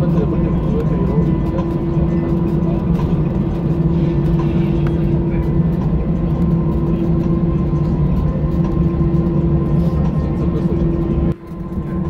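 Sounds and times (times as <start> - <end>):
vehicle interior drone: 0.0 - 12.0.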